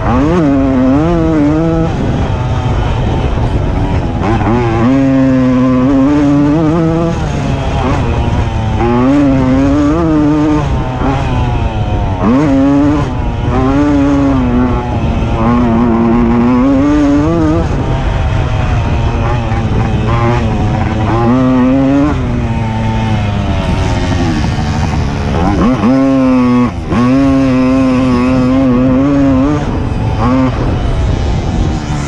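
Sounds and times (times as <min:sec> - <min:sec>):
moped engine revving: 0:00.0 - 0:32.0.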